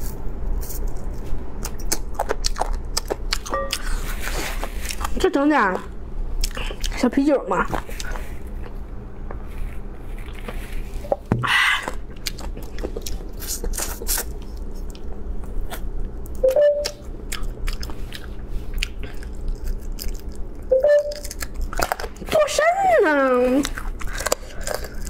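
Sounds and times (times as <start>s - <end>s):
crunching and chewing: 0.0s - 5.2s, 6.4s - 7.0s, 7.7s - 11.2s, 11.8s - 22.6s, 23.5s - 25.0s.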